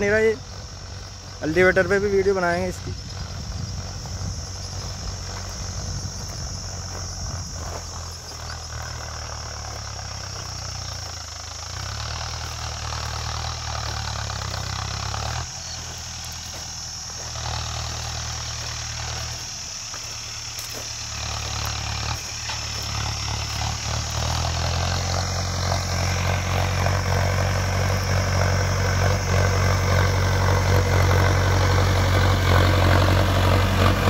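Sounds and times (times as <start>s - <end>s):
high insect chirr: 0.0s - 34.0s
tractor diesel engine running: 0.0s - 34.0s.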